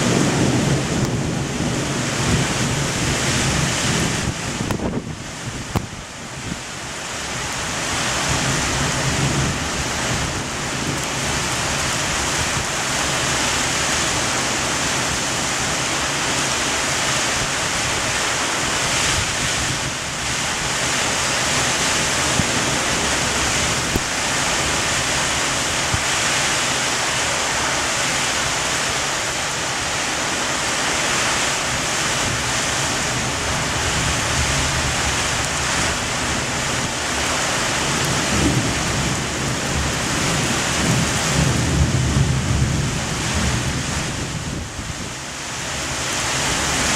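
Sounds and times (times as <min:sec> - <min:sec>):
strong wind rushing: 0:00.0 - 0:06.7, 0:07.3 - 0:46.9
heavy rain: 0:00.0 - 0:46.9.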